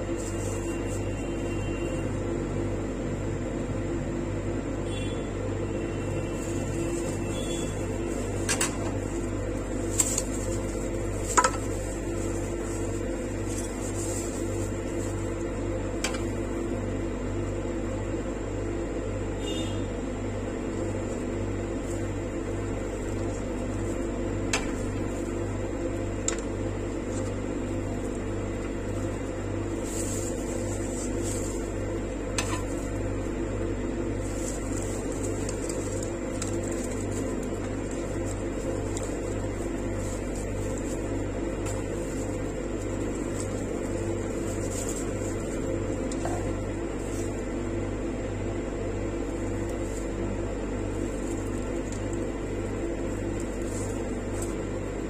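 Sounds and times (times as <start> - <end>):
machine hum: 0.0 - 55.0.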